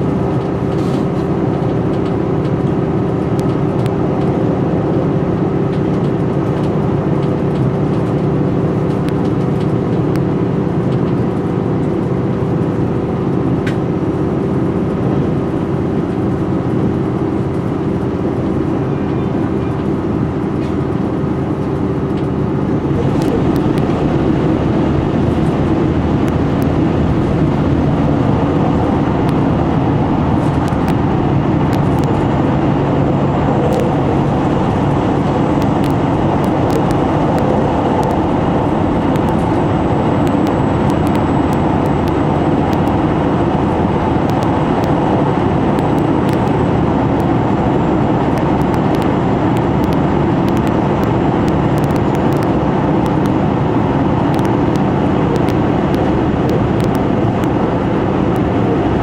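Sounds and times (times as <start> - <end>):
diesel engine drone: 0.0 - 59.0
wheel and rail rumble: 0.0 - 59.0.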